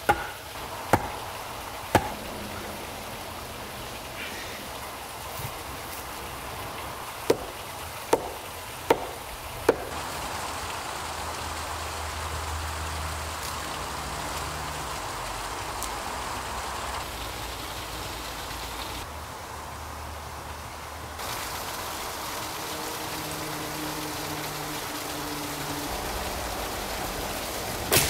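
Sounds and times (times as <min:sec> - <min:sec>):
running water hissing: 0:00.0 - 0:28.0.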